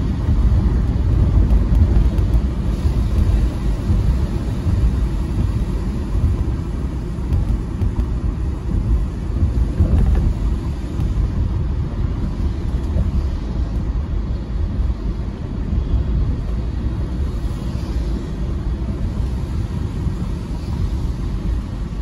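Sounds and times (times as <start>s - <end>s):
car road rumble: 0.0s - 22.0s
tyre hiss on wet road: 0.0s - 22.0s.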